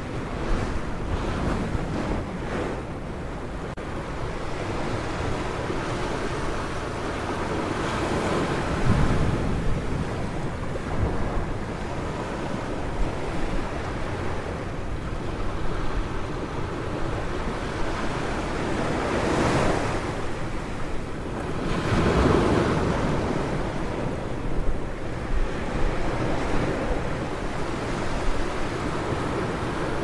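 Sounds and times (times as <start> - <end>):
waves breaking on beach: 0.0 - 30.0
wind rumble on microphone: 0.0 - 30.0.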